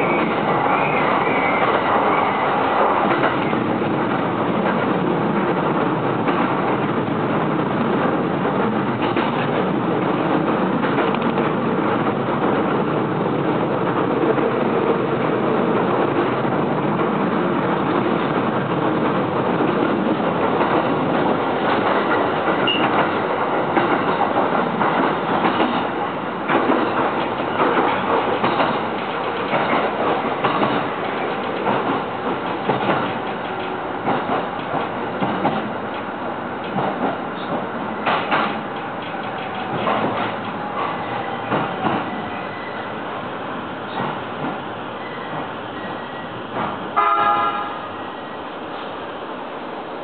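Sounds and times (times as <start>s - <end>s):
train wheels rumbling on rail: 0.0s - 50.0s
clacks over rail joints: 2.6s - 42.4s, 43.8s - 44.7s, 46.4s - 47.6s.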